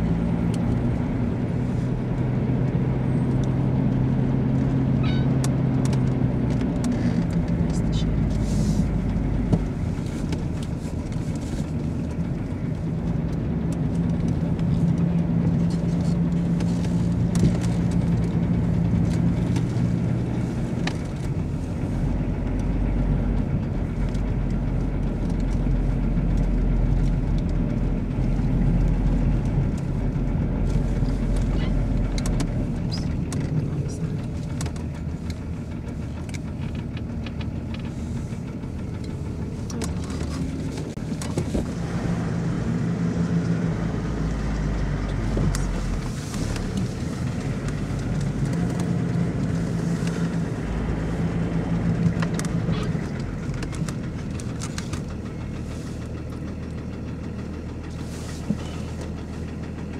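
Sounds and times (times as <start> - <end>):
car engine and tyre drone: 0.0 - 59.9.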